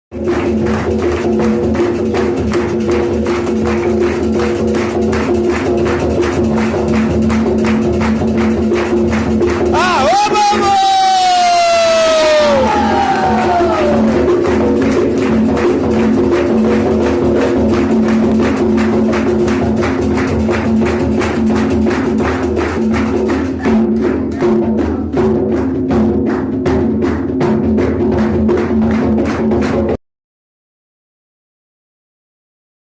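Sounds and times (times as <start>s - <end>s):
fast percussion beat: 0.1s - 30.0s.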